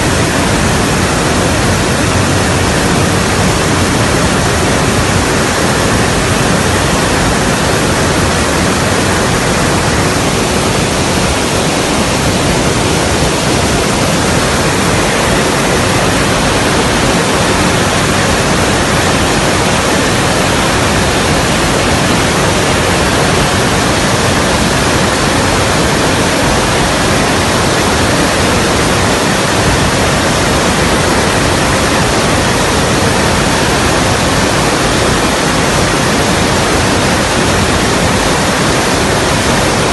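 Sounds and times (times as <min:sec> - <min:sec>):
aircraft engine roar in flight: 0:00.0 - 0:39.9.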